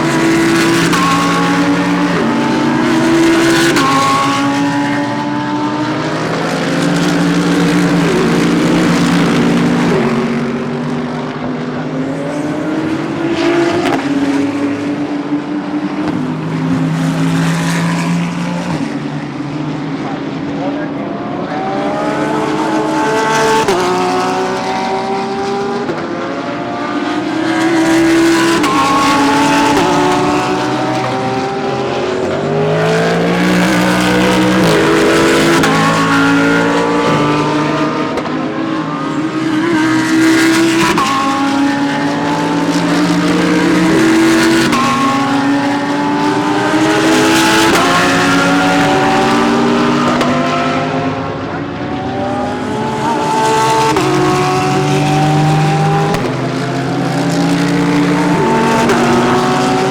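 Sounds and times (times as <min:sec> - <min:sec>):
race cars accelerating past: 0:00.0 - 0:59.9.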